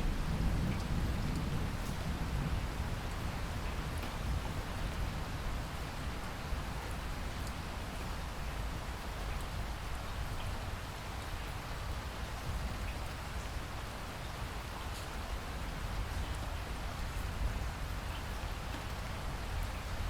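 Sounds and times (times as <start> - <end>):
steady rainfall: 0.0 - 20.0.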